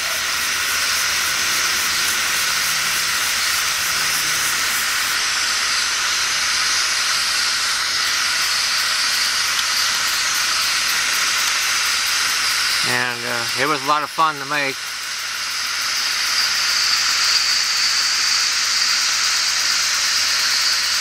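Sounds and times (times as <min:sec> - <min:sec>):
model steam engine hissing and pulsing: 0:00.0 - 0:21.0.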